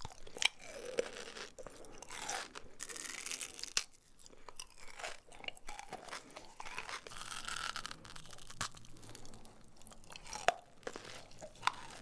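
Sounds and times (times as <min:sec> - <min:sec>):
crunching and chewing chocolate bar: 0:00.0 - 0:12.0.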